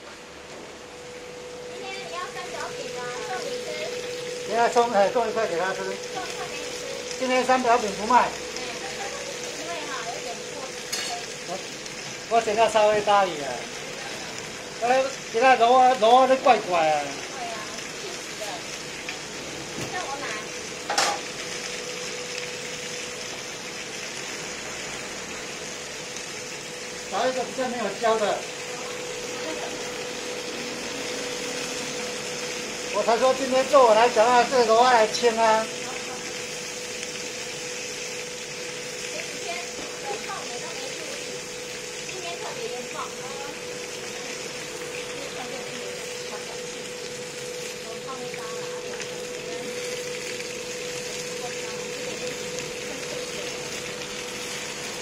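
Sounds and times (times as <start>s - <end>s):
buns sizzling in oil: 0.0s - 55.0s
steady hum: 0.0s - 55.0s.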